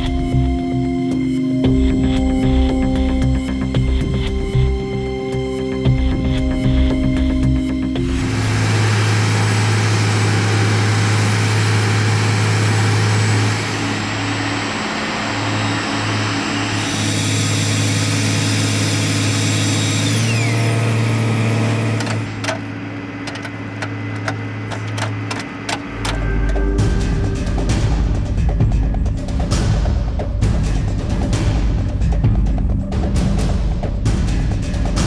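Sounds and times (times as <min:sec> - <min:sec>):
truck engine hum: 0:00.0 - 0:35.0.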